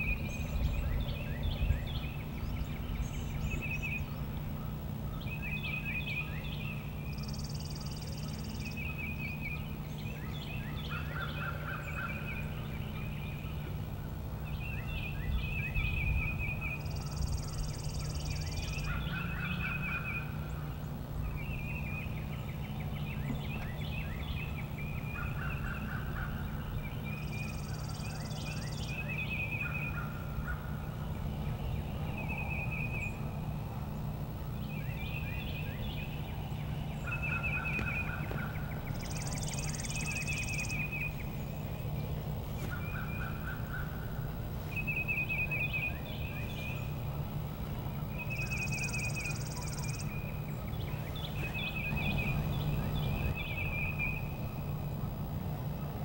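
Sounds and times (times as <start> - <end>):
songbirds chirping: 0.0 - 56.0
steady low hum: 0.0 - 56.0.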